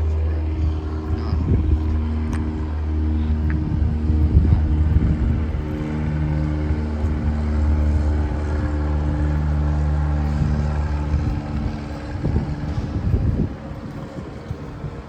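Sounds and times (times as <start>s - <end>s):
low rumbling: 0.0s - 15.0s
steady engine drone: 0.0s - 15.0s.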